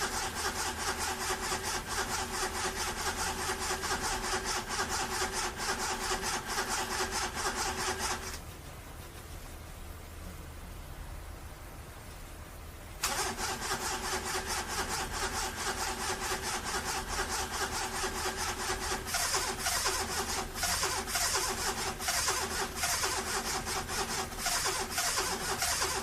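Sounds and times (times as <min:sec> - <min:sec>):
car engine cranking on starter: 0:00.0 - 0:08.4, 0:13.0 - 0:26.0.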